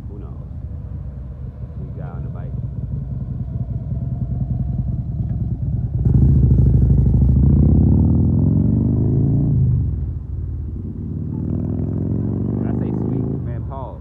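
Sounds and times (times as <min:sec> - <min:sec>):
vehicle engine passing by: 0:01.7 - 0:10.0, 0:10.8 - 0:14.0.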